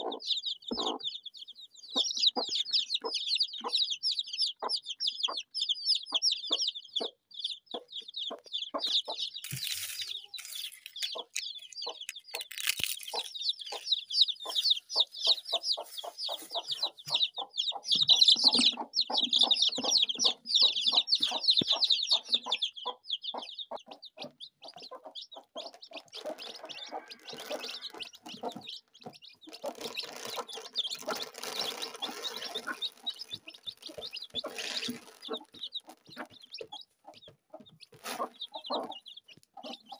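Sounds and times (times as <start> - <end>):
chickens clucking: 0.0 - 39.9
high-pitched chick peeping: 0.0 - 39.9.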